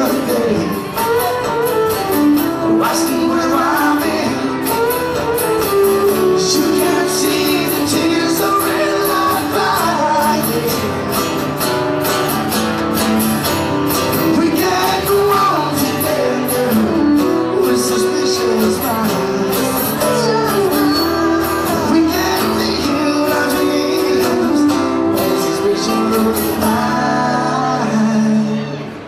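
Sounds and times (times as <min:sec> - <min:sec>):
man singing: 0:00.0 - 0:01.6, 0:02.5 - 0:11.1, 0:14.1 - 0:29.0
acoustic guitars strummed: 0:00.0 - 0:29.0.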